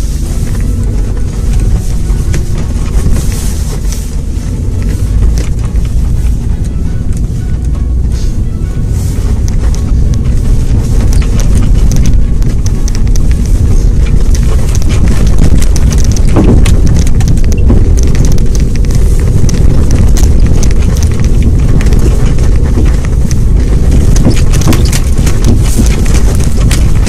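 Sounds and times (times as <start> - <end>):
vehicle rumble on snowy track: 0.0 - 27.0
wheel and body knocks and rattles: 0.0 - 27.0.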